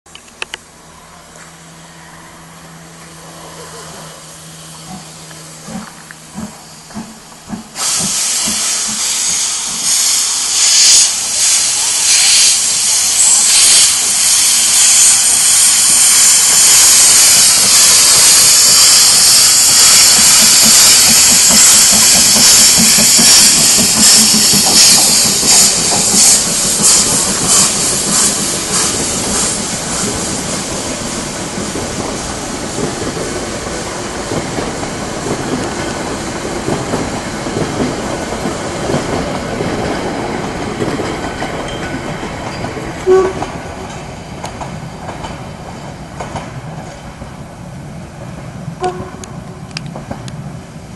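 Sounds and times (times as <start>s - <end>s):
steam locomotive exhaust beats: 0.1s - 50.9s
steam hiss: 0.9s - 50.9s
train wheels clattering on rails: 4.7s - 50.7s.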